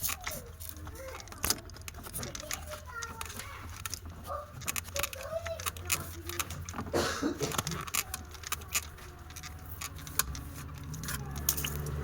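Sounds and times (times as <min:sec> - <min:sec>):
small clicks and taps: 0:00.0 - 0:12.0.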